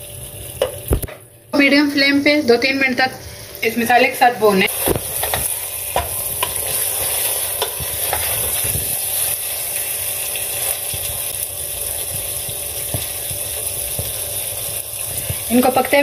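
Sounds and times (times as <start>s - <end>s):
gravy sizzling in a metal pot: 0.0s - 16.0s.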